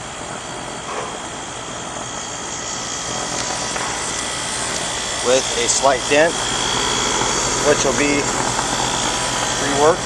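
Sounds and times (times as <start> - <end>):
heat pump humming and whooshing: 0.0 - 10.0.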